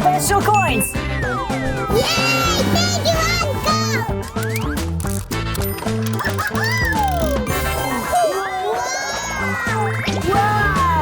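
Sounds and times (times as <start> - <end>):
upbeat background music: 0.0 - 11.0.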